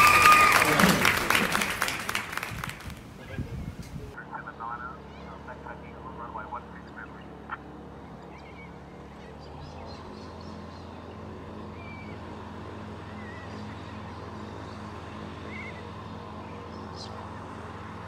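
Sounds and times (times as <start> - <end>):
birds chirping: 0.0 - 18.0
plane engine idling: 0.0 - 18.0.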